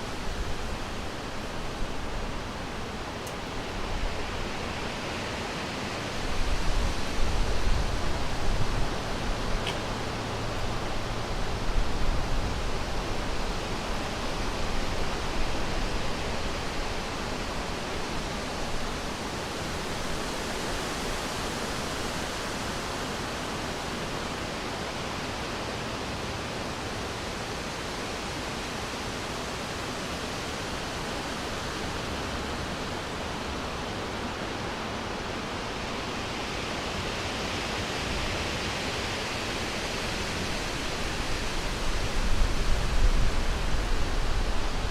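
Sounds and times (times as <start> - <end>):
wind through trees: 0.0 - 44.9.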